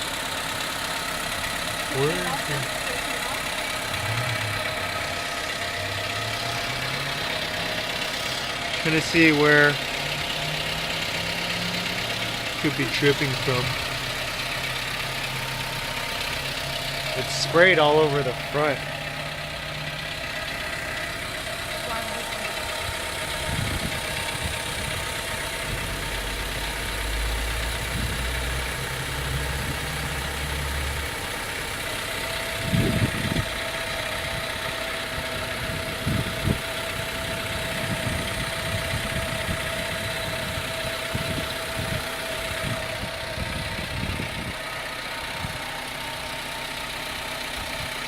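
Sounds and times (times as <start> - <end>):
car engine idling: 0.0 - 48.0
metal tapping in engine: 0.0 - 48.0.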